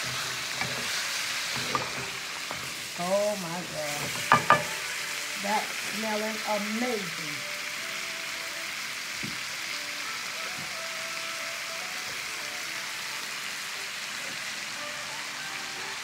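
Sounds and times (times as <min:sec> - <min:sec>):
seafood sizzling in a pan: 0:00.0 - 0:16.0.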